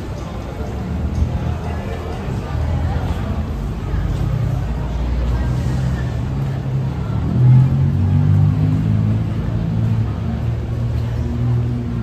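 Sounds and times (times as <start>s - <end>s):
vehicle engines running: 0.0s - 12.0s.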